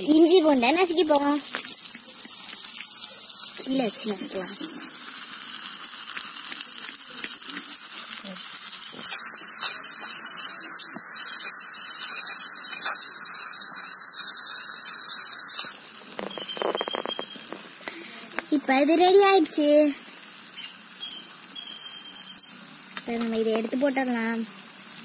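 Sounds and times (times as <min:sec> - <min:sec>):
onions frying in pot: 0:00.0 - 0:25.0.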